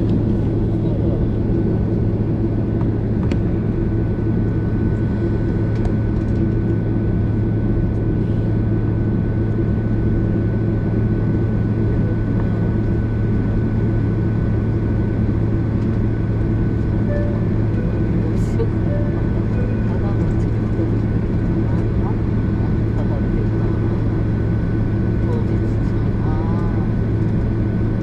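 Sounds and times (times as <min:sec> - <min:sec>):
airliner cabin hum: 0:00.0 - 0:28.0.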